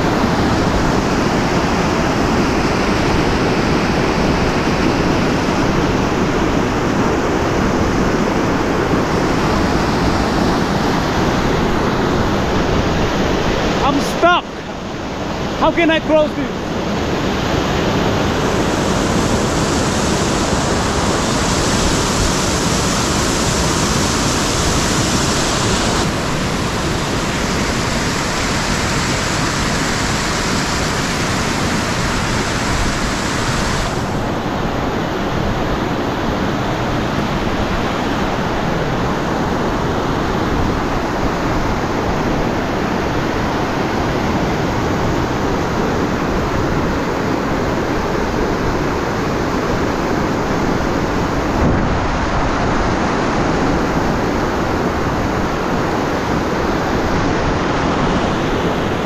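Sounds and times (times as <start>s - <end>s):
fast river rushing: 0.0s - 59.0s.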